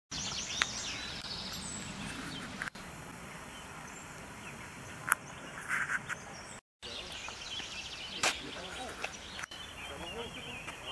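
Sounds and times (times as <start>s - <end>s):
birds chirping: 0.1s - 10.9s.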